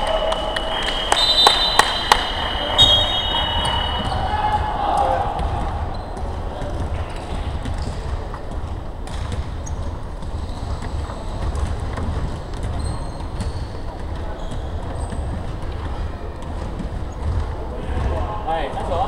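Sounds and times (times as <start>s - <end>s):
low rumble of large hall: 0.0s - 19.0s
sneakers squeaking on wooden floor: 1.2s - 19.0s.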